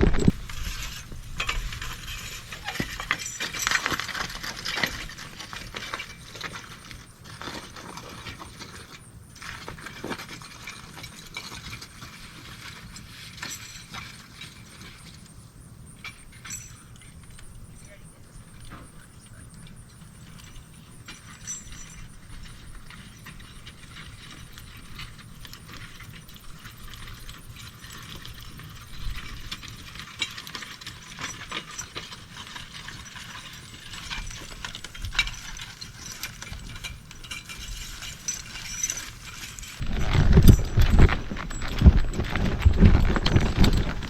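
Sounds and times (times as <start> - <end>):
cultivator and harness rattling: 0.0 - 44.0.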